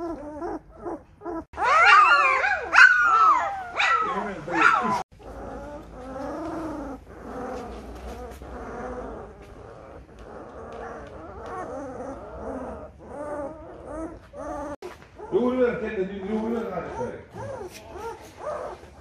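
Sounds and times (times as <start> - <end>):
puppies whimpering and whining: 0.0 - 19.0.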